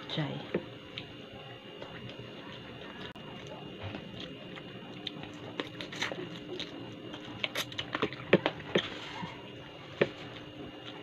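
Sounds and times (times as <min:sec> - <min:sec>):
chewing with wet mouth clicks: 0:00.8 - 0:01.2, 0:01.8 - 0:11.0.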